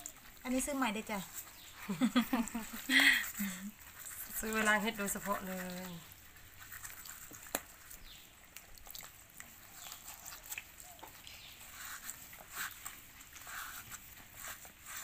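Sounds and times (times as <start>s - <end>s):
scrubbing in water: 0.0s - 15.0s.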